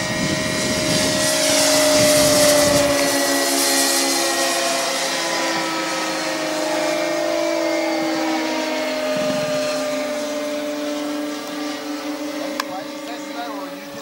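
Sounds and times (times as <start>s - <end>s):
model planes whining overhead: 0.0s - 14.0s.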